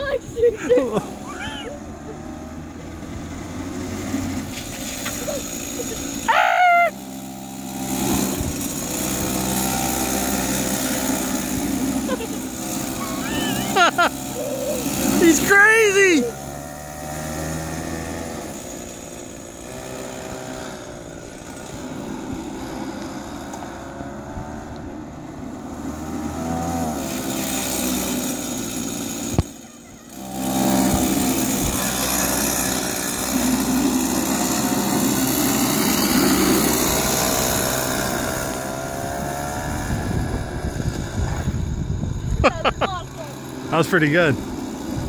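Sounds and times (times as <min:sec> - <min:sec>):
go-kart engine running: 0:00.0 - 0:45.0.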